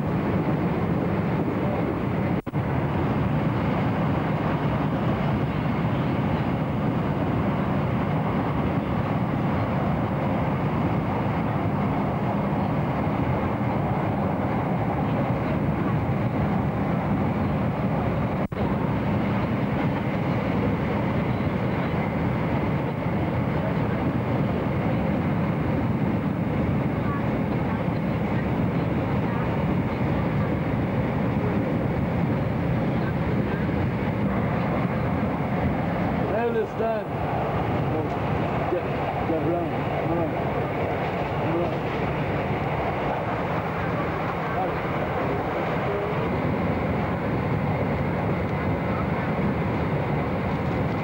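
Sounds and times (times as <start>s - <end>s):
train rumble and hiss: 0.0s - 51.0s.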